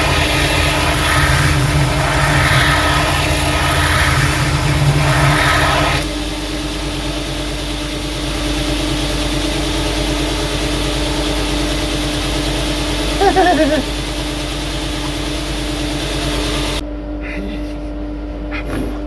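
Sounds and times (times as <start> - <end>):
belt grinder humming: 0.0 - 16.8
loud grinding noise: 0.0 - 16.8
wavering falling whine: 0.0 - 17.2.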